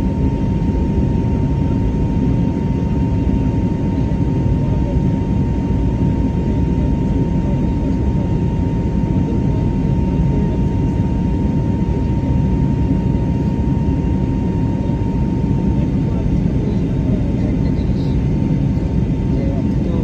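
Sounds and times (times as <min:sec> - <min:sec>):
airliner roar: 0:00.0 - 0:20.0.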